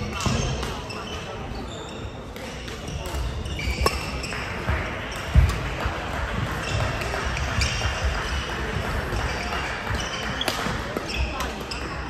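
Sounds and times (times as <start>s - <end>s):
shoes squeaking on floor: 0.0s - 5.6s, 6.6s - 8.5s, 9.1s - 12.0s
rackets striking shuttlecock: 2.3s - 12.0s.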